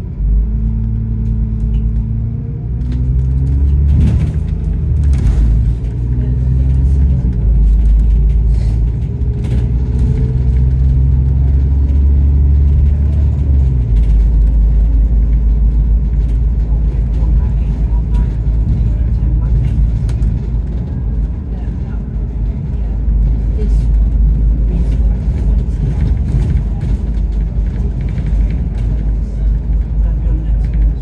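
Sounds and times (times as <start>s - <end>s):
bus engine under load: 0.0s - 31.0s.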